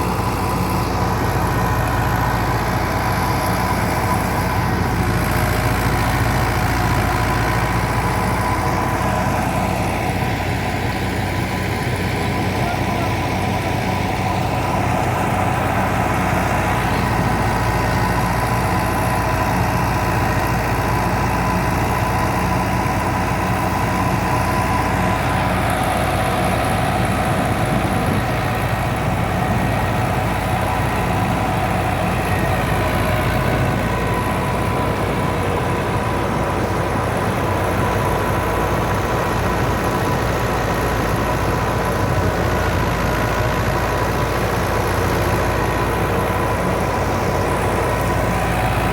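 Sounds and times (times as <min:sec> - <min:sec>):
tractor diesel engine and thresher: 0:00.0 - 0:48.9.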